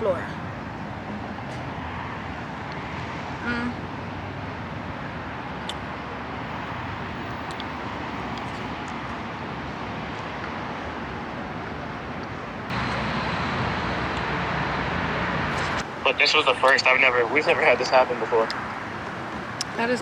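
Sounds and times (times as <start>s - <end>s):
car noise: 0.0s - 20.0s.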